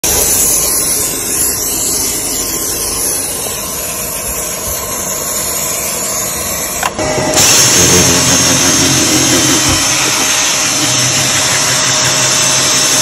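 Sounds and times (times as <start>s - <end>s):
foam sprayer hissing: 0.0s - 13.0s.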